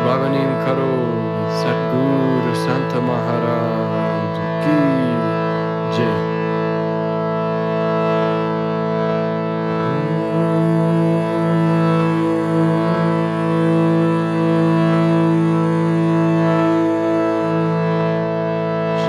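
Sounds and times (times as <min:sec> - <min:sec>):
dense drone of held tones: 0:00.0 - 0:19.0
low sliding melody line: 0:00.0 - 0:19.0.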